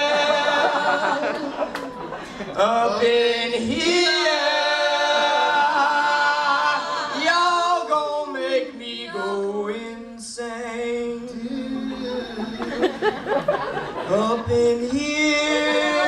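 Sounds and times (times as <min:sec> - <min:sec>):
a cappella group singing: 0:00.0 - 0:16.0.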